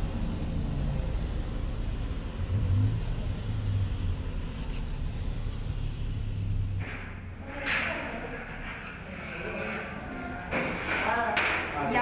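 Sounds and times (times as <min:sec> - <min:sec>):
vehicle engine rumble: 0:00.0 - 0:10.9.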